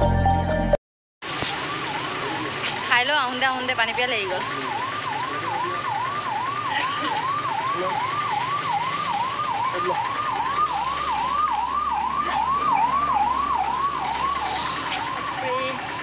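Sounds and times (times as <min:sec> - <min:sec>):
electronic siren yelping: 0:01.3 - 0:16.0.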